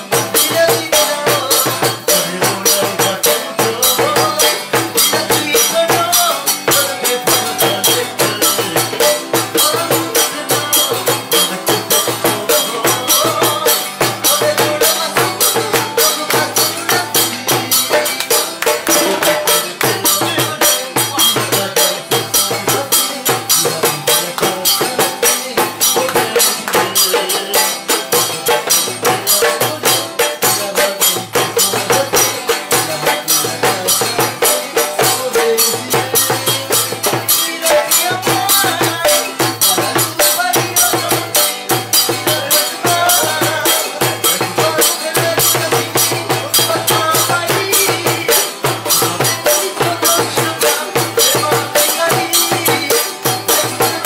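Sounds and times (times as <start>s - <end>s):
music with jingling percussion: 0.0s - 54.0s.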